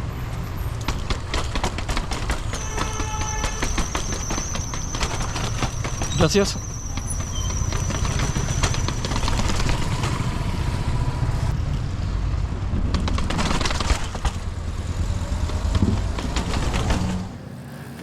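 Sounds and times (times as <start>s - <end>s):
bike rattling and knocking: 0.7s - 10.9s, 12.6s - 17.4s.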